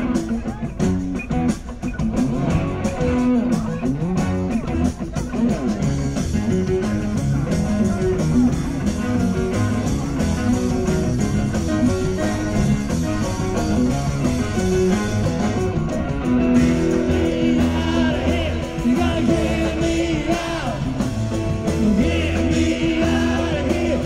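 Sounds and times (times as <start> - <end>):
bass: 0.0 - 24.0
drums: 0.0 - 24.0
electric guitar lead: 0.0 - 24.0.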